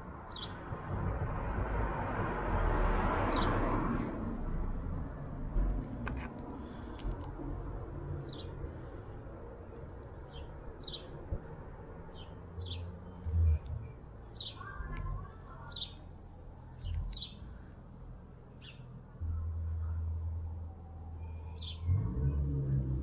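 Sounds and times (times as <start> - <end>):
low rumbles: 0.6 - 23.0.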